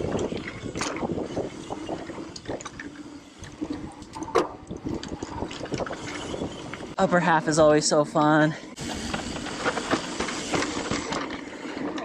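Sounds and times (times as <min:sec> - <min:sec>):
bike tyres rolling over dirt: 0:00.0 - 0:07.4, 0:08.8 - 0:12.0
bike rattling: 0:00.0 - 0:12.0.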